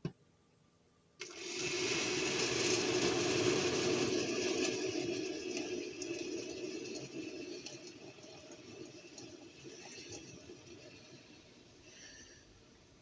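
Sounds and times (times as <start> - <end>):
water pouring into container: 1.2 - 12.6.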